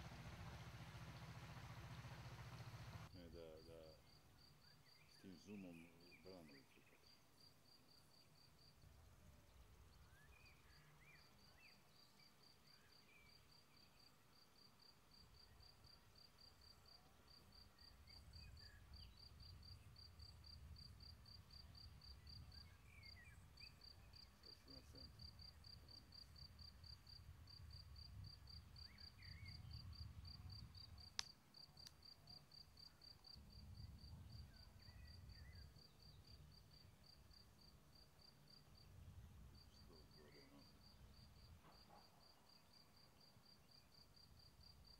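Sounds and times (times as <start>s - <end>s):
cricket chirping: 0.1s - 44.9s.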